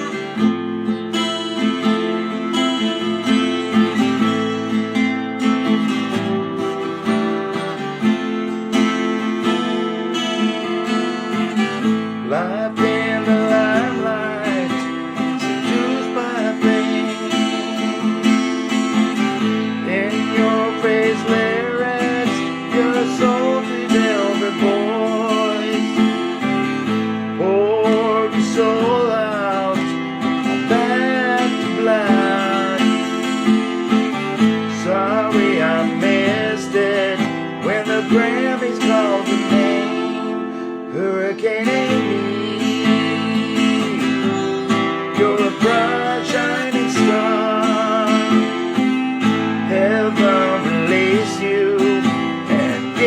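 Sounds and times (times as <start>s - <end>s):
acoustic guitar strumming chords: 0.0s - 53.0s.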